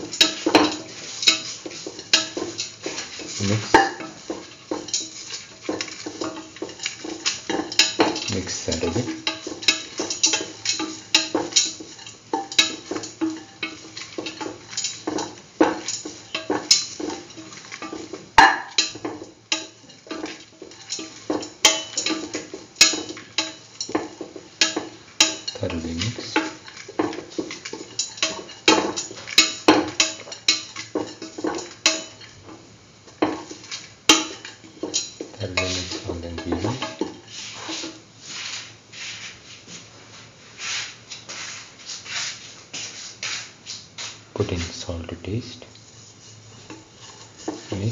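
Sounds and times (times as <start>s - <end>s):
wooden spatula scraping metal pan: 0.0s - 32.6s, 33.2s - 39.9s, 45.8s - 47.9s.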